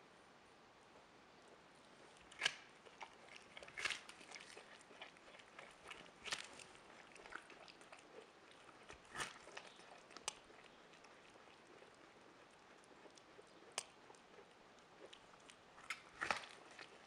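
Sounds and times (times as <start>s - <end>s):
animal chewing crunches: 1.9s - 17.0s.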